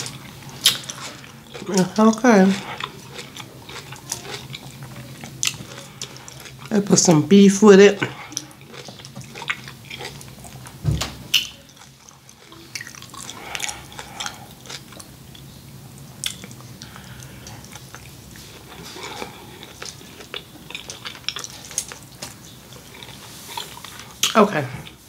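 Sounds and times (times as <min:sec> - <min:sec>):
person chewing: 0:00.0 - 0:07.2, 0:07.9 - 0:25.0.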